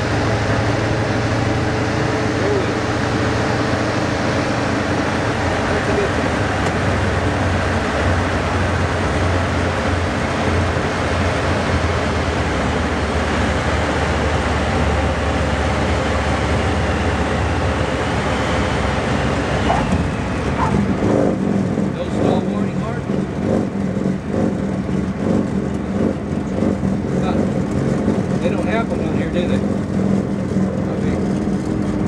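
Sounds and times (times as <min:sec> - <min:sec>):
small plane engine and propeller droning: 0:00.0 - 0:32.0.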